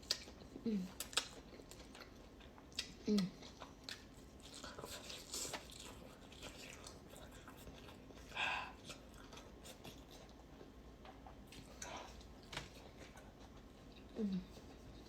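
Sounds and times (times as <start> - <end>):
wet chewing with crunches: 0.0 - 15.0.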